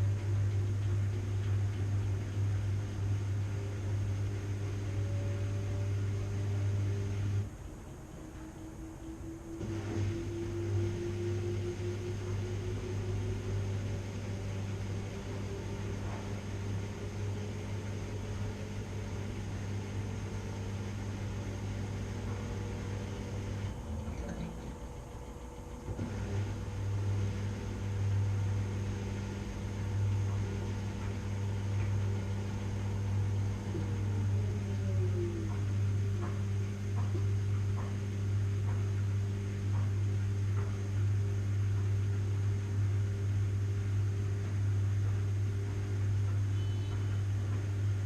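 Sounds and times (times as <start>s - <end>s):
washing machine running: 0.0s - 48.0s.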